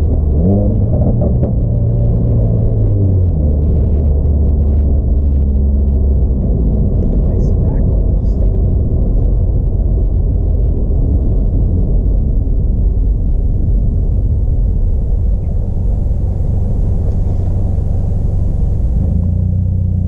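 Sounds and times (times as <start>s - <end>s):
car engine exhaust rumble: 0.0s - 20.0s.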